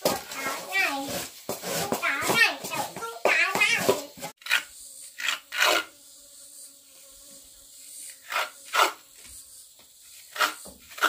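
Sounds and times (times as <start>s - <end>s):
short scraping strokes: 0.1s - 6.7s, 7.8s - 11.0s.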